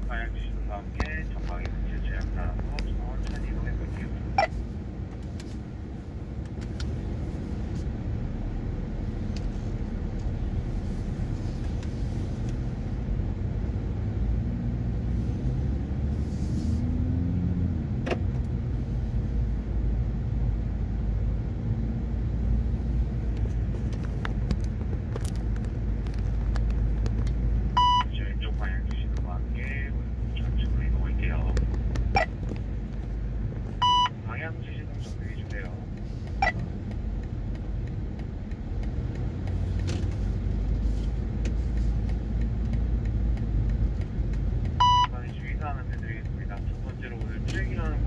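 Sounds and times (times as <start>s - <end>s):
car engine idling and pulling away: 0.0s - 48.0s.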